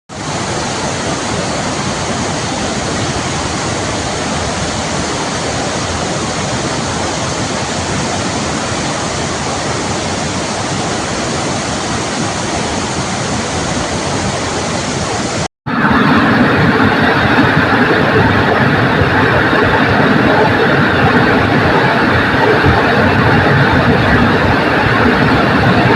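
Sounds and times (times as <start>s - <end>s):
loud steady sound: 0.1s - 25.9s
waterfall rushing: 0.1s - 25.9s.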